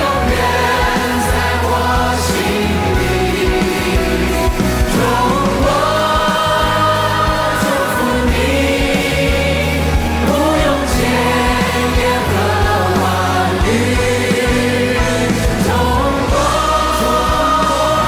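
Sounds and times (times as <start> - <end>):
crowd singing along: 0.0 - 18.0
full band playing: 0.0 - 18.0.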